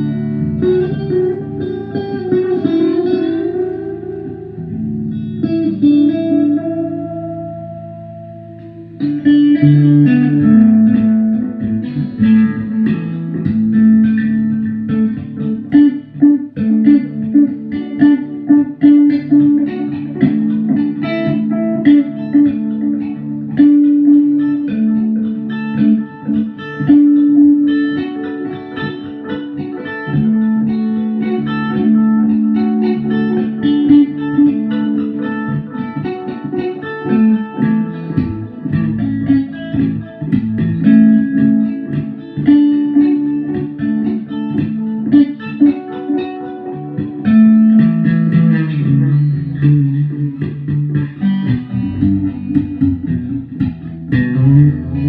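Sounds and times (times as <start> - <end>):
plucked guitar music: 0.0 - 55.0.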